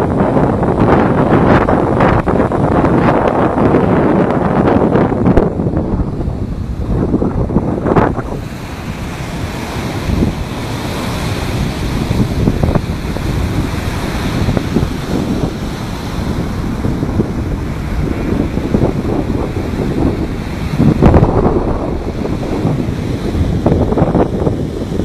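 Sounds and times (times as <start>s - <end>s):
surf breaking on a beach: 0.0s - 25.0s
wind buffeting the microphone: 0.0s - 25.0s.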